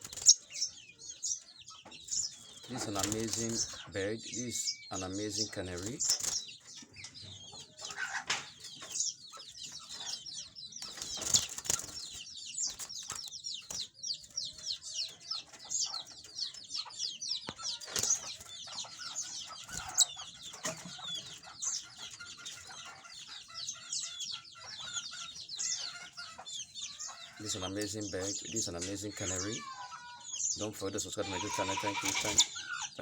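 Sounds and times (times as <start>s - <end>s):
canary singing: 0.0s - 33.0s.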